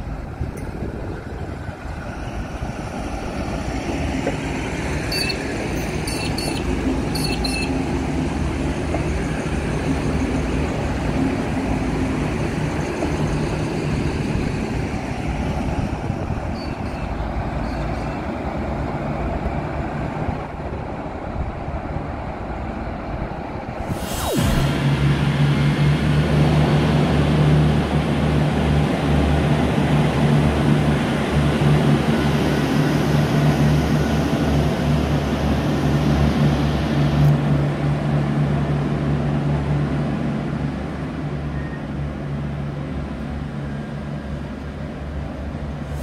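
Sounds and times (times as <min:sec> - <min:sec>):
train wheel rumble on track: 0:00.0 - 0:23.9, 0:24.9 - 0:46.0
train diesel engine drone: 0:00.0 - 0:46.0.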